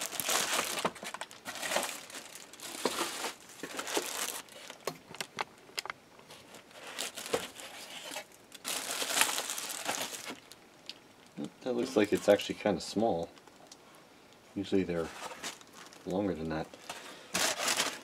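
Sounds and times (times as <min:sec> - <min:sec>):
plastic bags crinkling: 0:00.0 - 0:12.7, 0:15.0 - 0:18.0.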